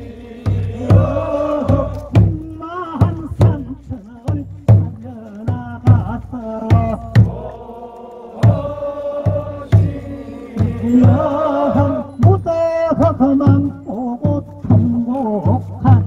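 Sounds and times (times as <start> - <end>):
drum beats: 0.0 - 16.0.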